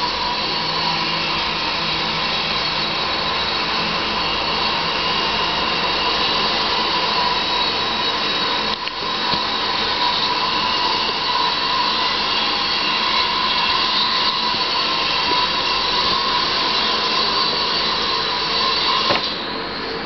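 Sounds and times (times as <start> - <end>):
thin high whine: 0.0 - 20.0.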